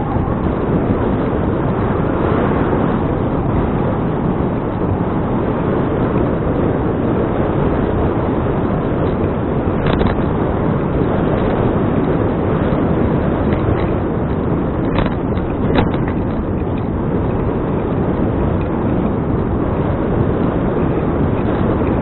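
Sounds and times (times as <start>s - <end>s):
tyre and road noise: 0.0s - 22.0s
wind buffeting microphone: 0.0s - 22.0s.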